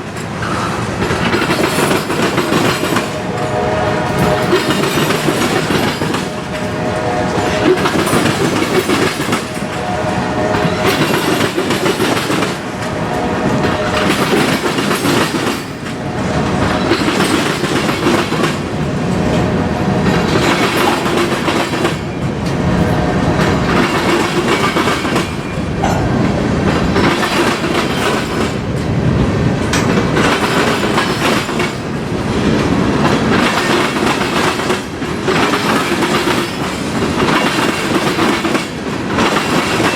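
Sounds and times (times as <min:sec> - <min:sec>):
railroad cars rolling past: 0:00.0 - 0:39.9
wheels clacking over rail joints: 0:00.0 - 0:39.9.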